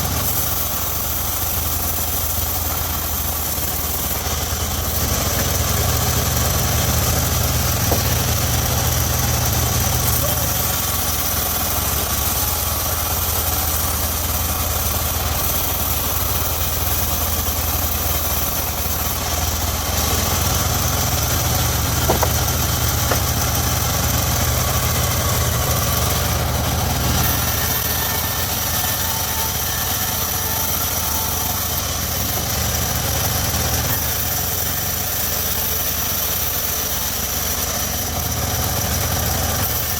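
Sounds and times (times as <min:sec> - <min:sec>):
sawmill engine running steadily: 0:00.0 - 0:39.9.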